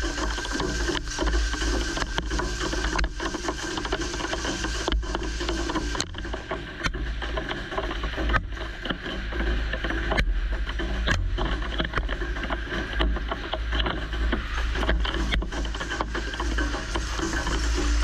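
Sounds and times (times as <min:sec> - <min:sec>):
coolant hiss: 0:00.0 - 0:18.0
mill spindle rumbling: 0:00.0 - 0:18.0.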